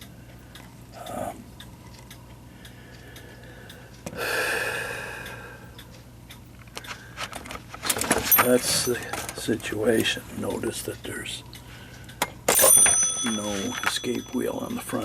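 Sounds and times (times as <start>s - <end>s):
mechanical clock ticking: 0.0s - 15.0s.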